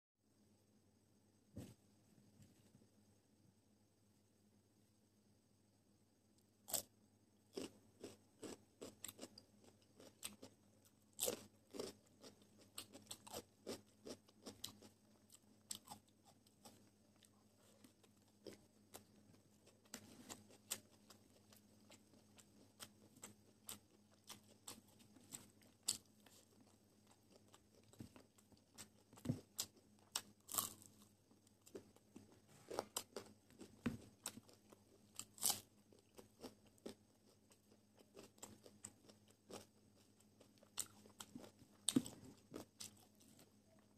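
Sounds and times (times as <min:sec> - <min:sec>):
person chewing and crunching food: 0:06.7 - 0:06.9, 0:07.5 - 0:43.9.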